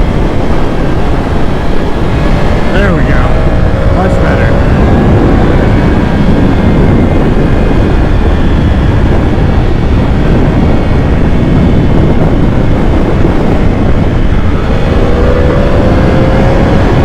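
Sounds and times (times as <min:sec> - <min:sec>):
loud wind roar on microphone: 0:00.0 - 0:17.0
motorcycle engine running: 0:00.0 - 0:17.0.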